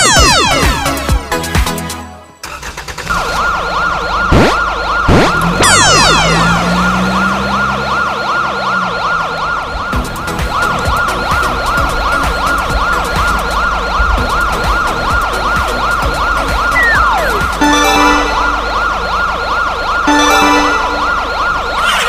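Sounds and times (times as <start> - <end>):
police siren yelping: 0.0 - 1.1, 3.1 - 22.0.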